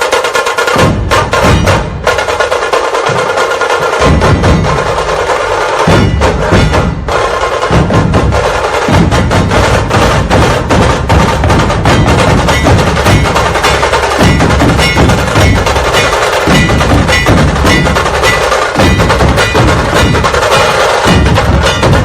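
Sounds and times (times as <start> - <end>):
deep barrel drums: 0.0 - 22.0.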